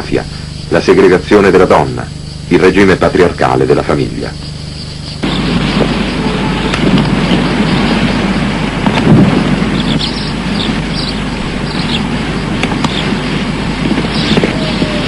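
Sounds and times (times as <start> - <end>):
constant low hum: 0.0 - 15.0
small birds chirping: 0.0 - 15.0
steady rushing noise: 0.0 - 15.0.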